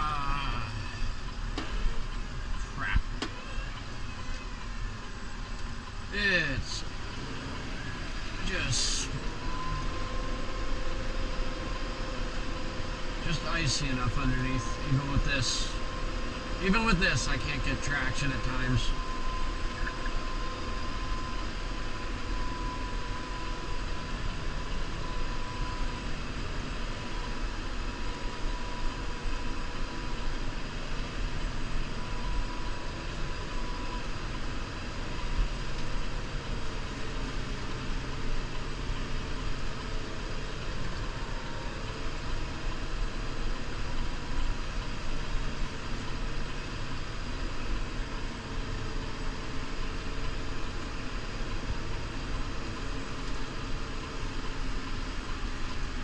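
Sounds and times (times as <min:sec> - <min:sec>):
faint thin whine: 0:00.0 - 0:56.0
tractor diesel engine running: 0:00.0 - 0:56.0.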